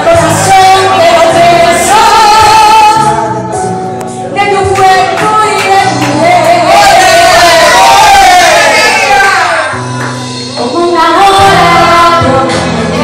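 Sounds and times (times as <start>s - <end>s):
woman singing a ballad: 0.0s - 3.6s, 4.3s - 9.6s, 10.5s - 13.0s
instrumental backing music: 0.0s - 13.0s.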